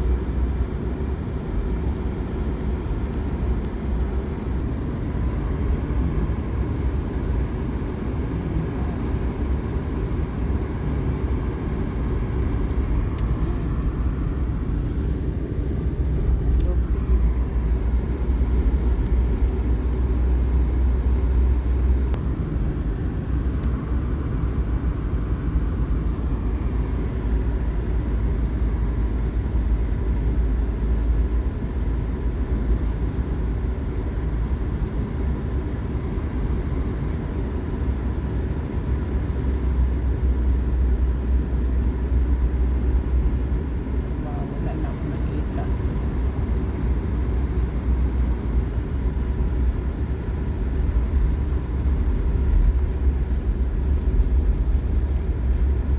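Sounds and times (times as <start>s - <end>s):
car tyre and engine rumble: 0.0s - 55.9s.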